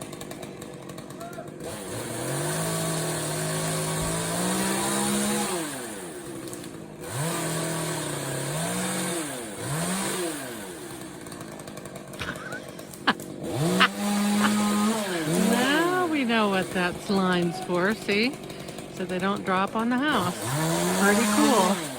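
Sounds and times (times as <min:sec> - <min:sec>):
chainsaw revving and idling: 0:00.0 - 0:21.9.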